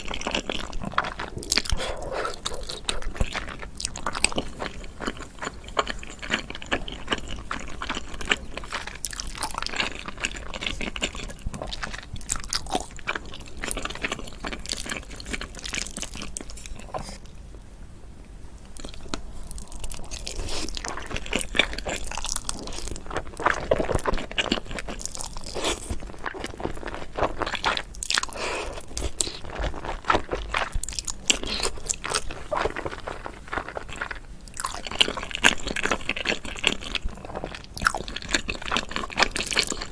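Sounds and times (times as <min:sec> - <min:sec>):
crunchy bites and chewing: 0:00.0 - 0:17.3, 0:18.8 - 0:39.9.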